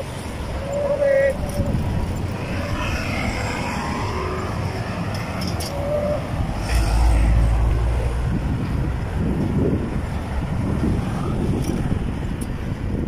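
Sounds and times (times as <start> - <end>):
road traffic rumble: 0.0 - 13.0
wind noise: 0.0 - 13.0.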